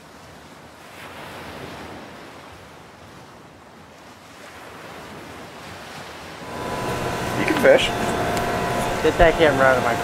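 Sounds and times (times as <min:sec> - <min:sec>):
sea noise: 0:00.0 - 0:10.0.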